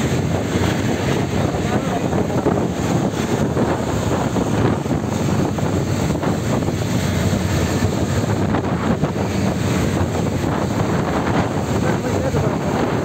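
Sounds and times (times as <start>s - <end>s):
road traffic noise: 0.0s - 13.0s
wind on microphone: 0.0s - 13.0s.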